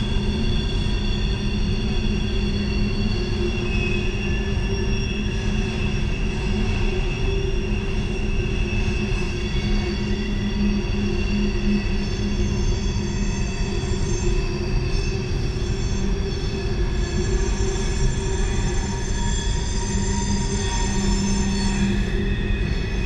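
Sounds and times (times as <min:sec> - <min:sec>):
low rumble of rolling train cars: 0:00.0 - 0:23.0
train wheels squealing on rails: 0:00.0 - 0:23.0.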